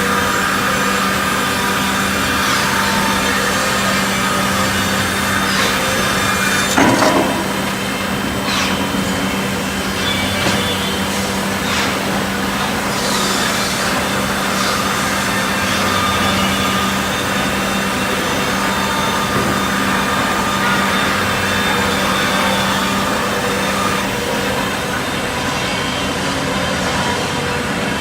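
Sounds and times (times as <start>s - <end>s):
jigsaw machine cutting wood: 0.0s - 28.0s.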